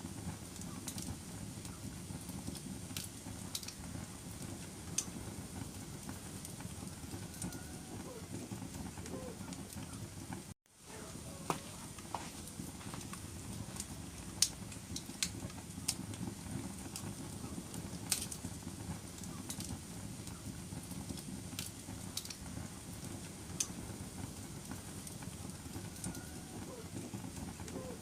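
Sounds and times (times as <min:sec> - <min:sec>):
fire crackles and pops: 0:00.0 - 0:28.0
low rumble of flames: 0:00.0 - 0:28.0.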